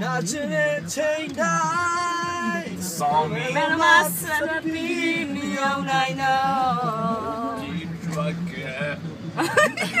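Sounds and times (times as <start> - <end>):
voices singing together: 0.0 - 9.0.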